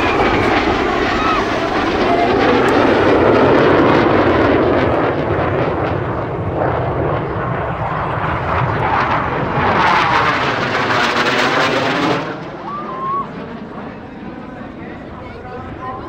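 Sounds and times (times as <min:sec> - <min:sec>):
jet passing overhead whoosh: 0:00.0 - 0:16.0
jet roar: 0:00.0 - 0:16.0.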